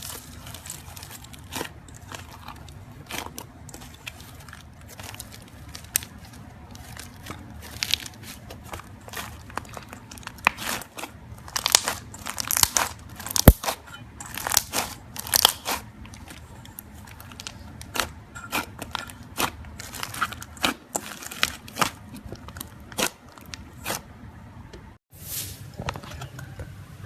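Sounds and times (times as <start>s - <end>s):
slime squishing and popping: 0.0s - 24.0s.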